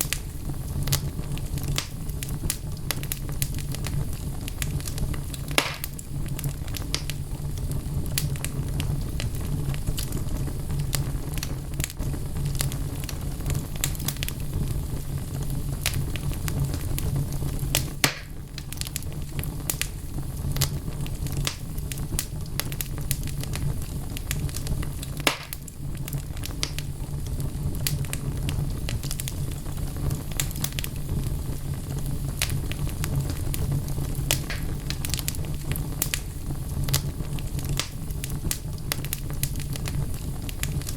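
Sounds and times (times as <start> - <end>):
fire rumbling in fireplace: 0.0 - 40.9
logs crackling and popping: 0.0 - 40.9.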